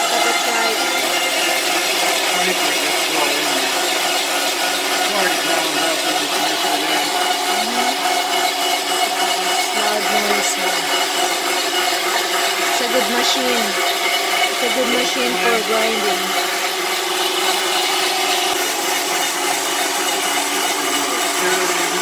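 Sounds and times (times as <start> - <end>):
electric meat grinder whining: 0.0 - 22.0.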